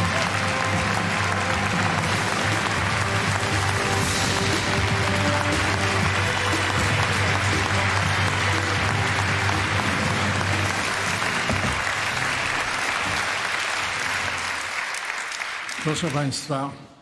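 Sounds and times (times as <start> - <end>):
music playing: 0.0 - 14.9
audience applauding: 0.0 - 16.8.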